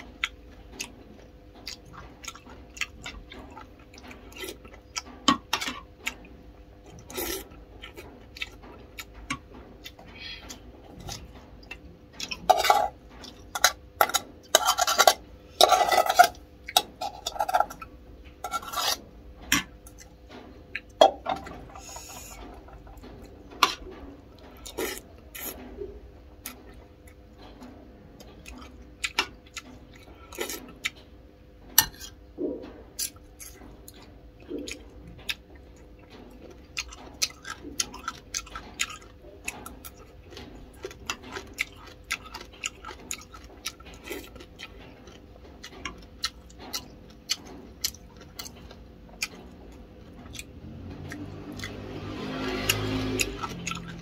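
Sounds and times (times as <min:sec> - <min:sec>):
chewing: 0:00.0 - 0:19.0, 0:19.6 - 0:31.2, 0:31.8 - 0:54.0.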